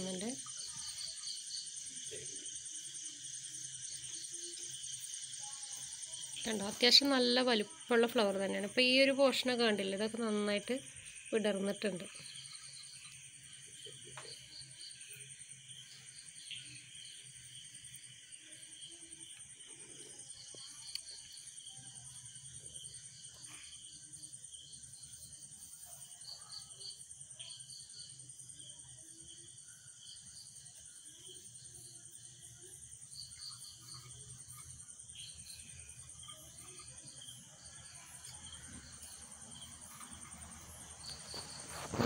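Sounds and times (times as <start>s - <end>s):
crickets chirping: 0.0s - 42.0s
insects trilling: 0.0s - 42.0s.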